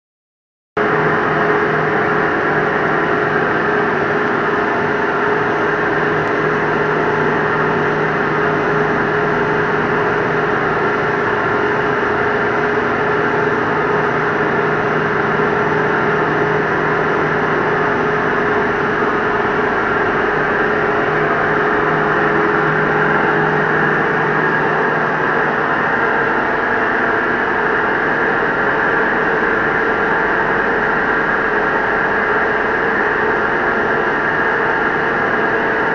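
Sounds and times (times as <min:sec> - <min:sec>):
lathe humming: 0:00.9 - 0:35.8.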